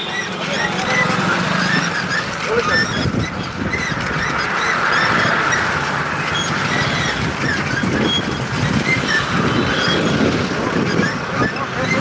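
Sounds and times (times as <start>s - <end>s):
motorbike engine: 0.0s - 12.0s
road noise: 0.0s - 12.0s.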